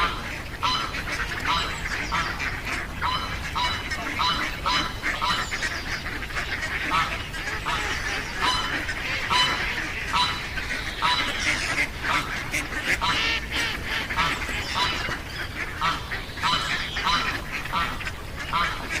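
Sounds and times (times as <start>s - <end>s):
ducks calling: 0.0s - 19.0s.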